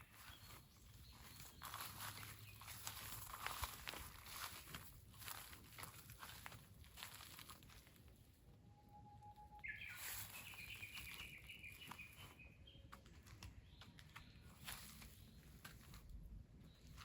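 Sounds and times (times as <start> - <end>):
songbird singing: 0.0 - 6.4, 8.5 - 15.9.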